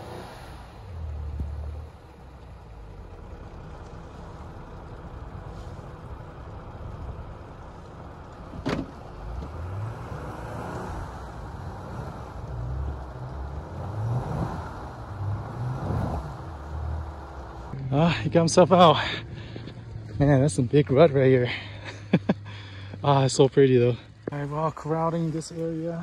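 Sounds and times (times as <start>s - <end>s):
engine revving: 0.0s - 7.7s, 8.4s - 24.4s.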